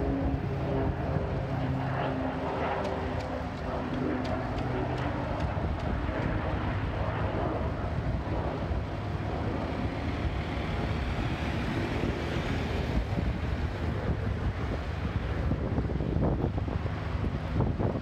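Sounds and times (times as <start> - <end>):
propeller airplane landing: 0.0 - 18.0
wind on microphone: 0.0 - 18.0.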